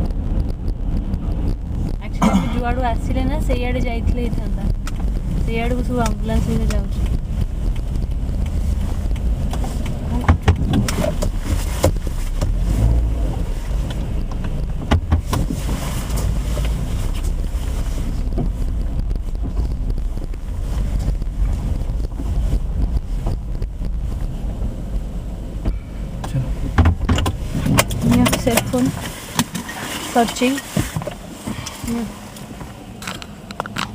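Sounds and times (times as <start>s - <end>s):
wind buffeting microphone: 0.0s - 32.0s
car driving heard from inside: 0.0s - 33.9s.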